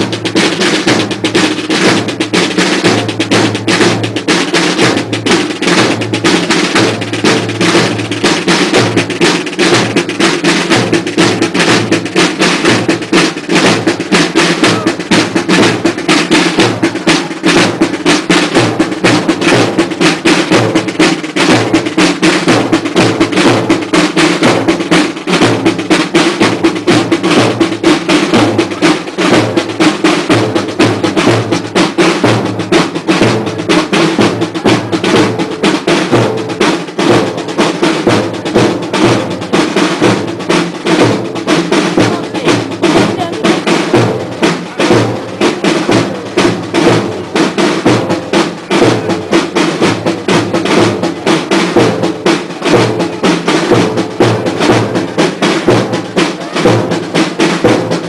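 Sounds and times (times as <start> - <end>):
snare drum rolls: 0.0 - 58.0.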